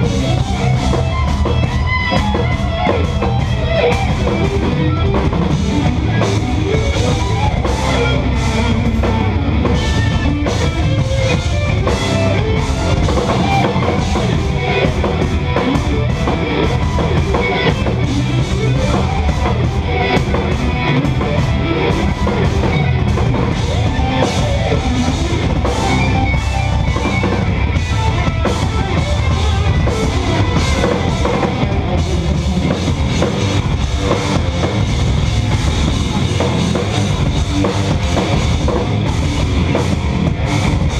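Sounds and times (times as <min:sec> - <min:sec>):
electric guitar: 0:00.0 - 0:40.9
fast busy drumming: 0:00.0 - 0:40.9.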